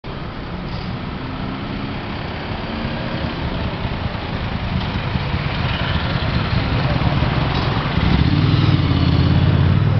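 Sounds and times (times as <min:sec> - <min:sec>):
vehicle engine rumbling: 0:00.1 - 0:09.9.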